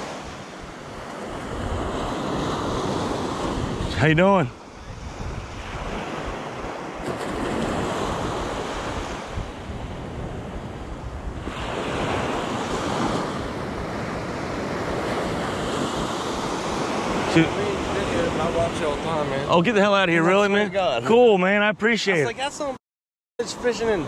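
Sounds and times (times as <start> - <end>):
wind buffeting microphone: 0.0 - 19.4
small waves breaking on beach: 0.0 - 20.9.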